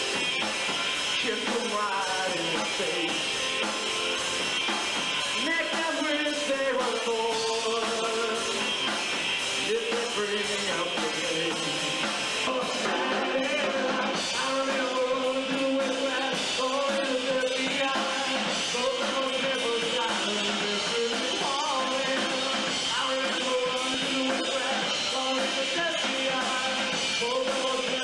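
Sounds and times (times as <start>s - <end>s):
rock band playing: 0.0s - 28.0s.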